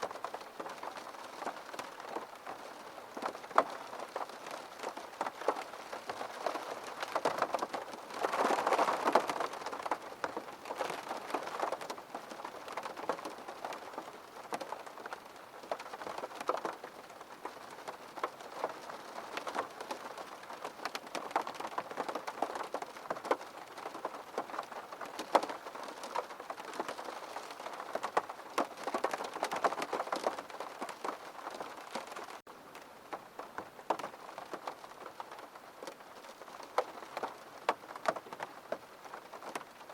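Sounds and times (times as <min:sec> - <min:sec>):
rain on a window pane: 0:00.0 - 0:39.9.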